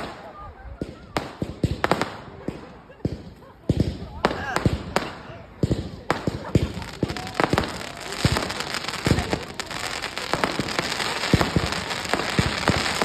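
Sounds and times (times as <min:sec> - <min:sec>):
fireworks bangs: 0:00.0 - 0:13.0
fireworks crackling hiss: 0:00.0 - 0:13.0.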